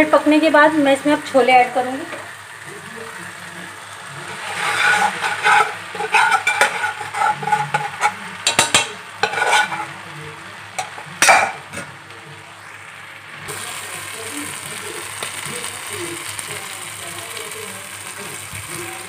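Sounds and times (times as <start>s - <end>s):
steady sizzle: 0.0s - 19.0s.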